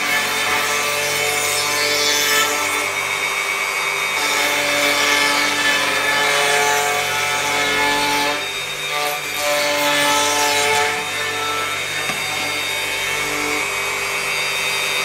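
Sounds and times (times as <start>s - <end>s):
power tool cutting wood: 0.0s - 15.0s.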